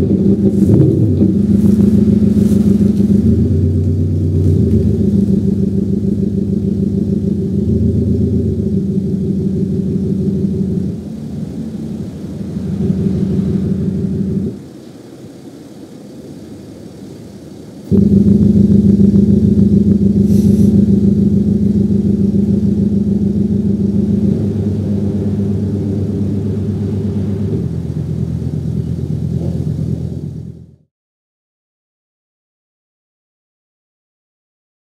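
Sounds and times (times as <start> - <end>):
synthesized engine rumble: 0.0 - 30.9.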